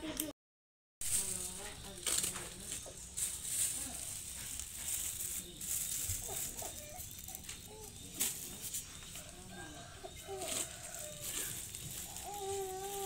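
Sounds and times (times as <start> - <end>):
plastic packaging crinkling: 1.0 - 13.0.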